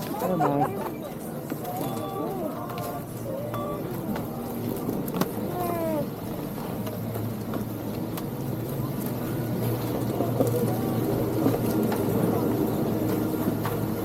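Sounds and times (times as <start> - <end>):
ski lift machinery hum: 0.0 - 14.0.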